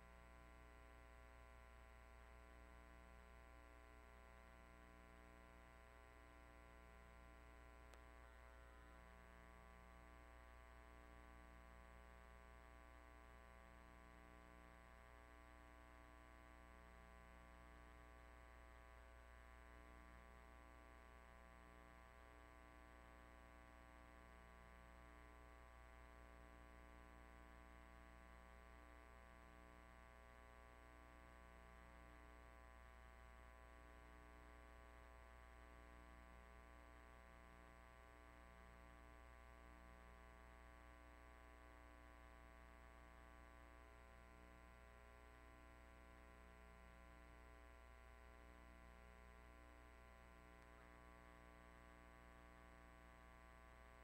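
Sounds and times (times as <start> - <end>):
faint electrical hum and hiss: 0.0 - 54.0.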